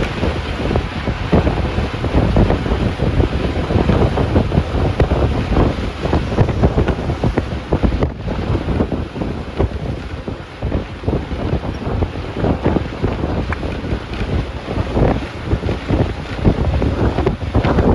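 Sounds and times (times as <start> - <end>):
bus engine and road noise: 0.0 - 17.9
wind buffeting microphone: 0.0 - 17.9.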